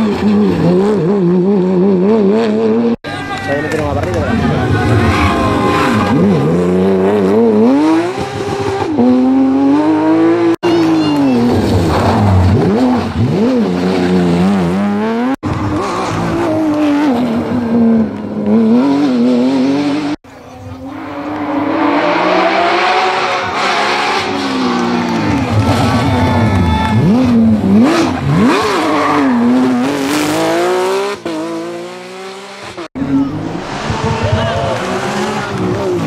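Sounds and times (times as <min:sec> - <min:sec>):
rally car engine revving hard: 0:04.6 - 0:10.6, 0:11.4 - 0:20.2, 0:20.9 - 0:36.0.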